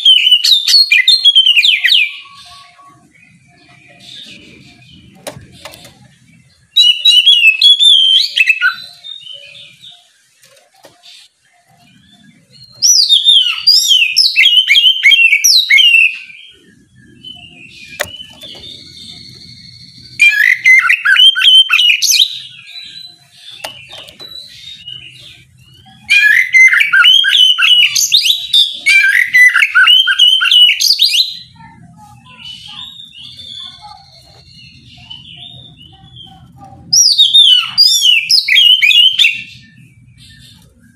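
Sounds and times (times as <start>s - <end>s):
bird singing whistles and trills: 0.0s - 40.9s
soft bird calls: 0.0s - 40.9s.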